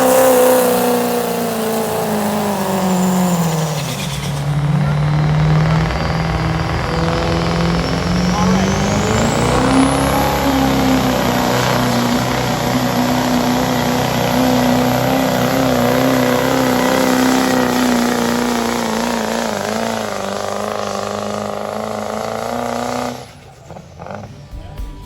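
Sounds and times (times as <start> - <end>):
truck engine revving hard: 0.0 - 24.7.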